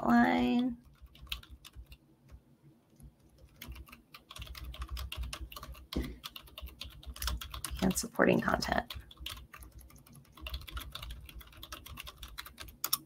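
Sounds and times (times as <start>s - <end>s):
typing on a keyboard: 0.8s - 13.0s.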